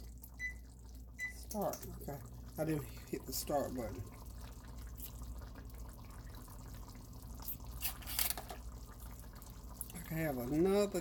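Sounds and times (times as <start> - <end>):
low steady hum: 0.0 - 11.0
sauce bubbling in a skillet: 0.0 - 11.0.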